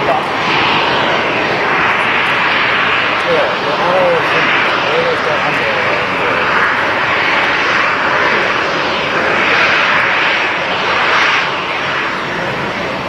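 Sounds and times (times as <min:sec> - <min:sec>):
jet engines at taxi thrust: 0:00.0 - 0:13.0.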